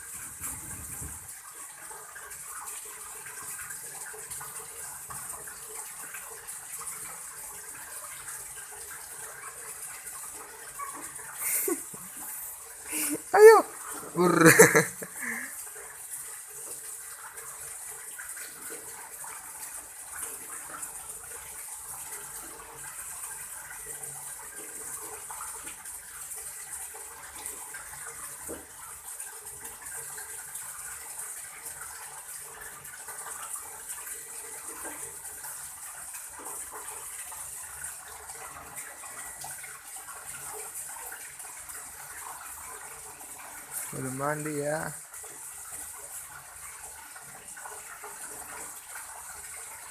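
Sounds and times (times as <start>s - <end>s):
water running and pouring: 0.0s - 49.9s.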